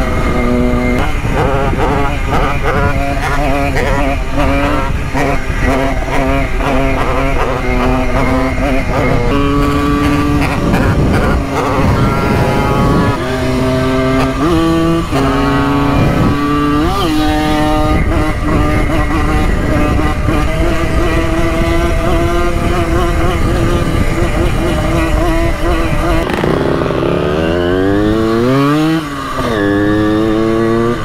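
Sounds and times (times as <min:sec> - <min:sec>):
moped engine revving: 0:00.0 - 0:31.0.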